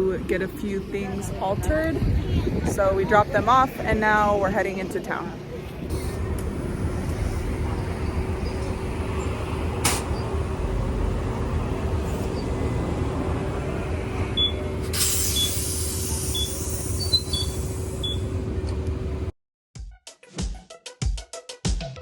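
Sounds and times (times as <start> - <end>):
vehicle engine and road rumble: 0.0 - 19.3.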